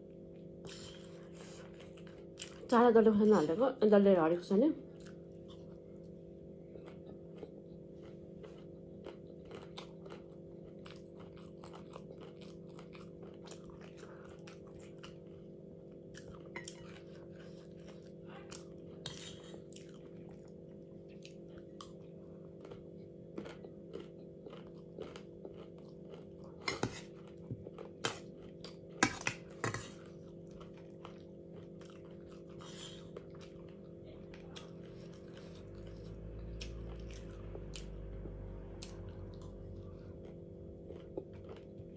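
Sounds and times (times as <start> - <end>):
steady low hum: 0.0 - 41.9
person chewing and crunching food: 0.1 - 2.7, 4.9 - 41.9.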